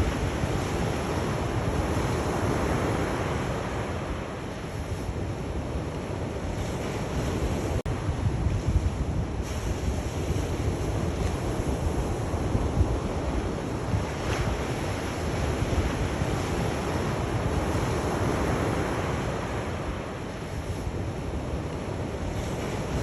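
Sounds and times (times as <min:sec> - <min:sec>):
sea waves washing on shore: 0:00.0 - 0:23.0.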